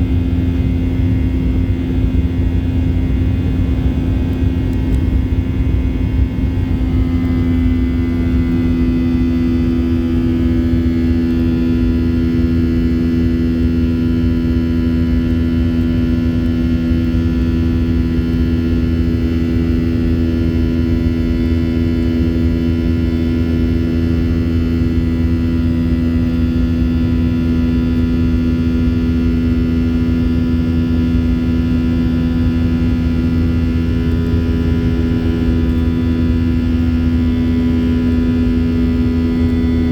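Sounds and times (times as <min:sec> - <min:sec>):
jet engine cabin drone: 0:00.0 - 0:39.9.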